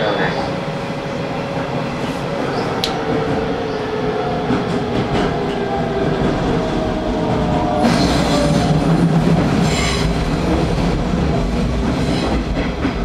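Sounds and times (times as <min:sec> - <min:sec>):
wheels rumbling on rails: 0:00.2 - 0:13.0.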